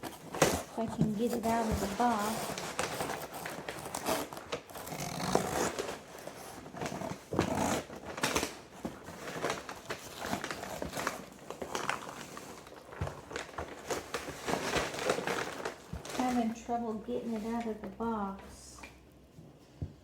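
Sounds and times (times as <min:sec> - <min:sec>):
cardboard box crinkling and rustling: 0:00.0 - 0:16.6.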